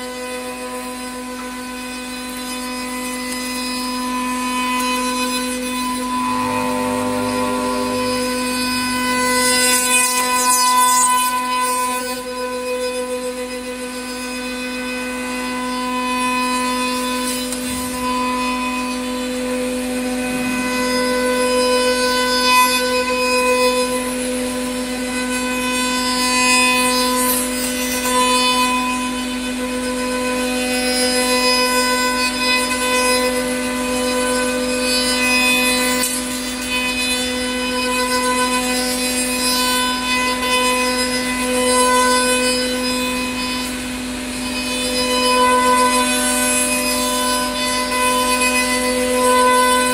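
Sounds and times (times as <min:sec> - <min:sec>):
cutter machining wood: 0:00.0 - 0:49.9
router spindle whine: 0:00.0 - 0:49.9.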